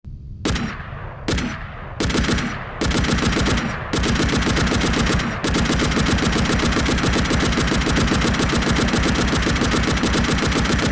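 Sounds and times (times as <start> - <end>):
machine gun firing bursts: 0.5 - 10.9.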